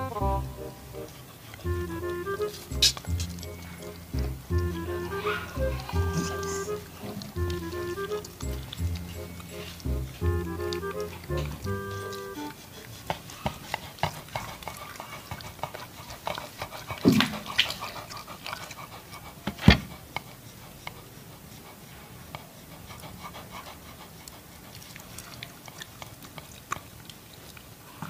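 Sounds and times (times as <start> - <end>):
dogs panting: 0.0 - 28.0.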